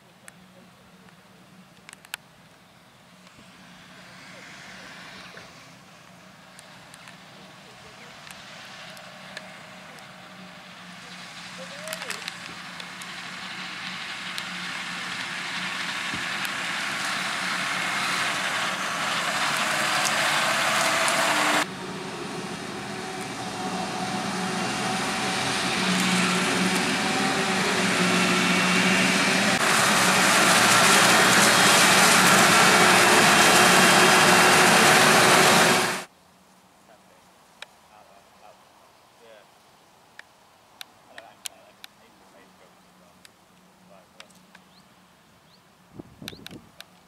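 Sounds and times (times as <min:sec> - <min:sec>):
tractors pulling trailers: 0:00.0 - 0:36.1, 0:40.8 - 0:47.0.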